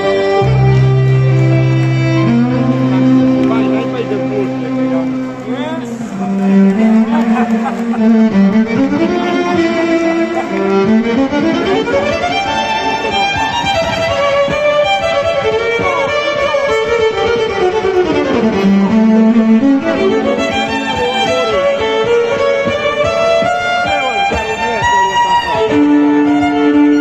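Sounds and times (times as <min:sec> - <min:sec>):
solo violin playing: 0:00.0 - 0:27.0.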